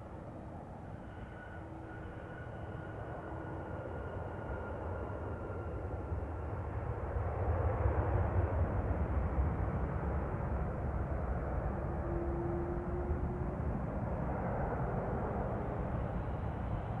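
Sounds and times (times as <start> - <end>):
faint engine whine: 0.0 - 17.0
jet engines rumbling at takeoff: 0.0 - 17.0.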